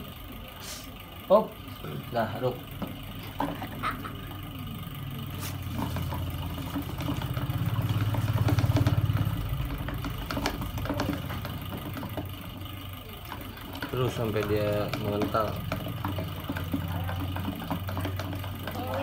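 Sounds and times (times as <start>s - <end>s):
small motor humming: 0.0s - 19.0s.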